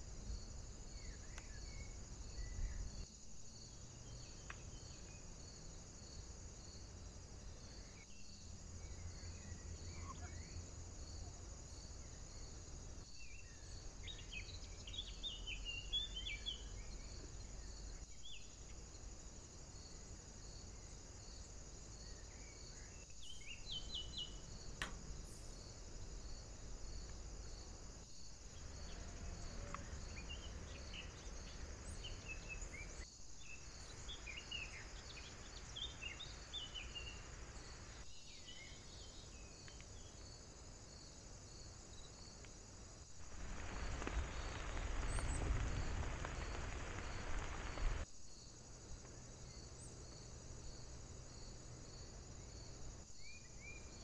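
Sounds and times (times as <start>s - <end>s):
insect chirring: 0.0s - 54.0s.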